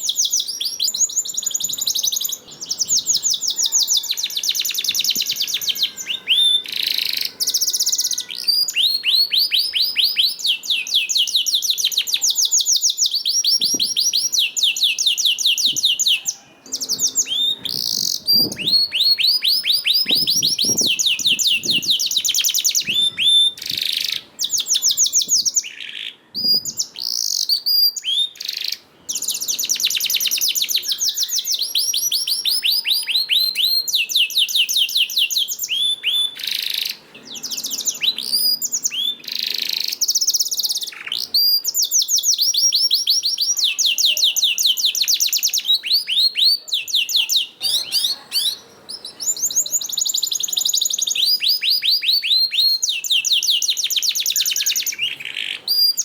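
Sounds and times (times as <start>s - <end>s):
canary singing fast trills: 0.0s - 56.0s.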